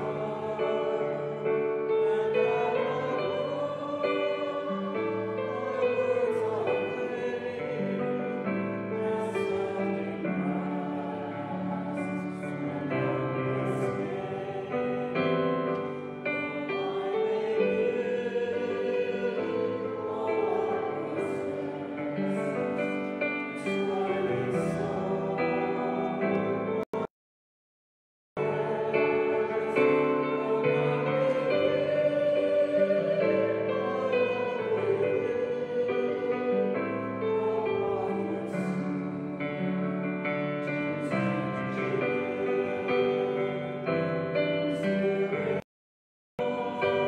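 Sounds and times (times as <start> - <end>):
choir singing church music: 0.0 - 27.1, 28.4 - 45.7, 46.4 - 47.0.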